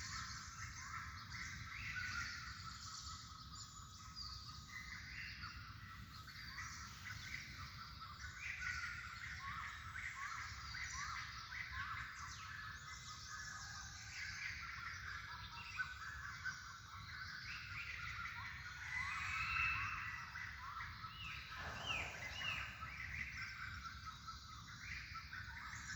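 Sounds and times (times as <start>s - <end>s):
flock of small birds chirping: 0.0s - 25.9s.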